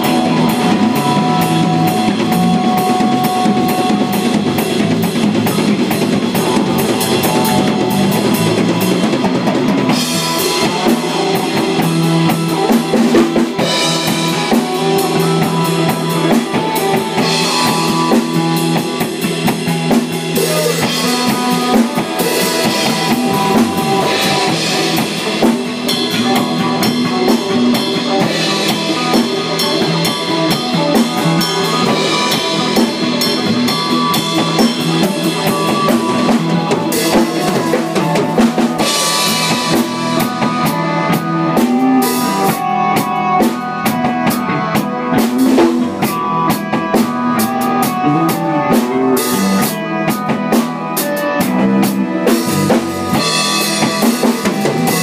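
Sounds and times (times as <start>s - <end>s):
sustained pitched instruments: 0.0s - 45.2s
drum kit playing: 0.0s - 55.0s.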